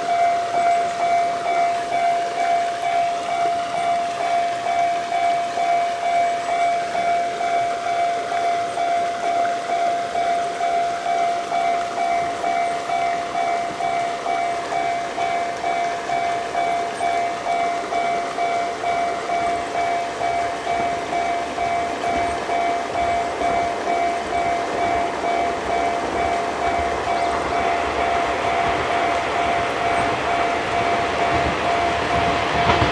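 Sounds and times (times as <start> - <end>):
level crossing warning bell: 0.0 - 32.9.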